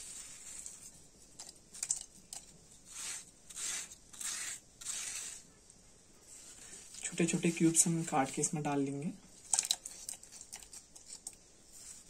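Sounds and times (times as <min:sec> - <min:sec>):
knife scraping watermelon: 0:00.0 - 0:12.0.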